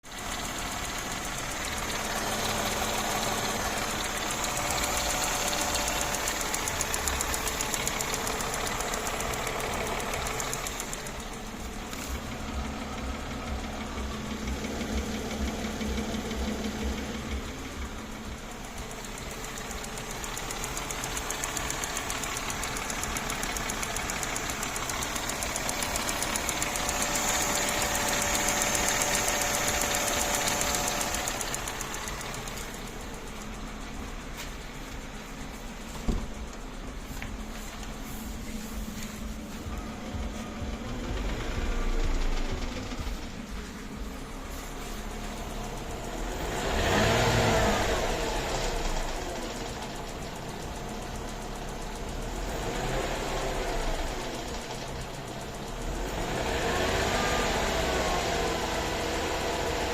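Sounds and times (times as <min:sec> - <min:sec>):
car engine running with knock: 0:00.0 - 0:59.9.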